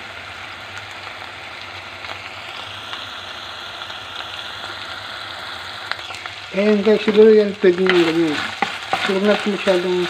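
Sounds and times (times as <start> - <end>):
meat sizzling in oil: 0.0 - 10.0.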